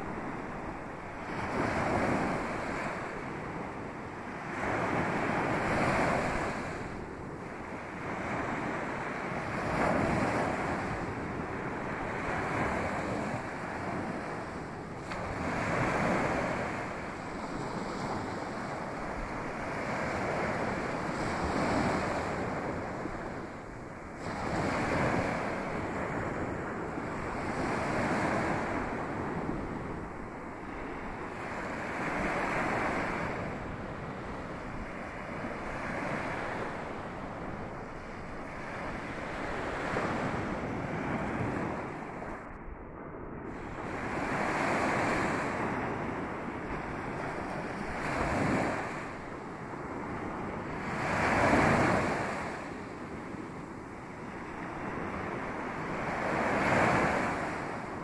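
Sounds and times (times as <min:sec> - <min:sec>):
small waves breaking on a beach: 0:00.0 - 0:58.0.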